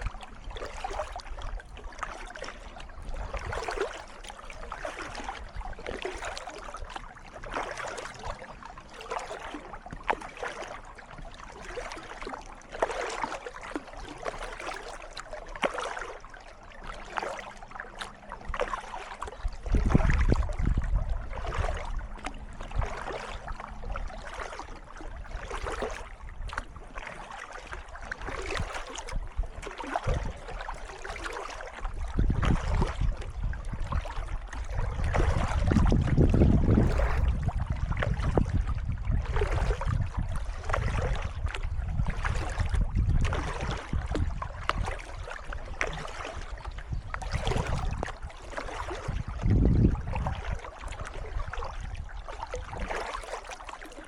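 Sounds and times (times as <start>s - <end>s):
paddle strokes splashing water: 0.0s - 54.0s.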